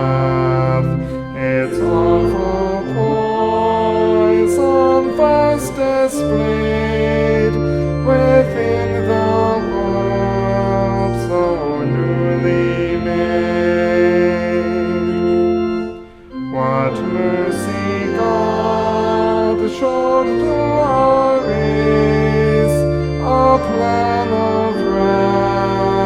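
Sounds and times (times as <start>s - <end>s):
church organ playing chords: 0.0s - 26.0s.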